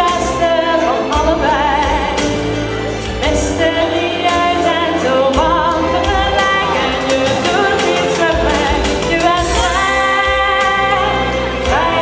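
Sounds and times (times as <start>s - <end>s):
pop backing track: 0.0s - 12.0s
woman singing: 0.0s - 12.0s.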